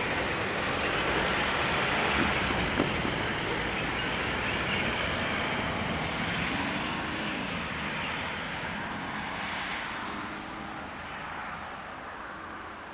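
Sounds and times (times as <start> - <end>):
freight train rumbling past: 0.0 - 11.2.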